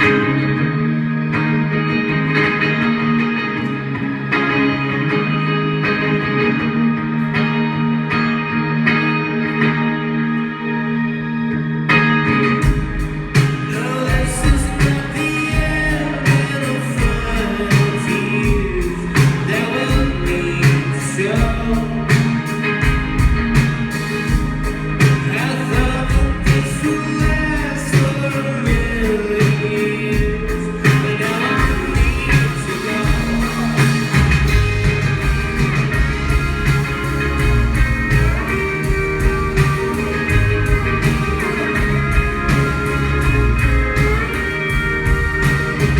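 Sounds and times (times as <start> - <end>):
live band with guitars: 0.0 - 45.9.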